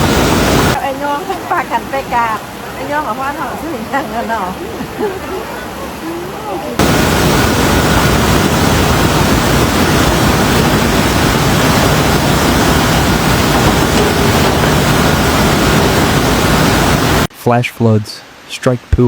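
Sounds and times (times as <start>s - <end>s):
floodwater rushing: 0.0s - 17.3s.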